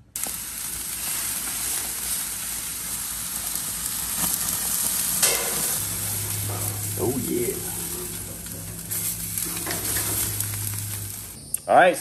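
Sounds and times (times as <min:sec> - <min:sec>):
meat sizzling on a grill: 0:00.0 - 0:11.4.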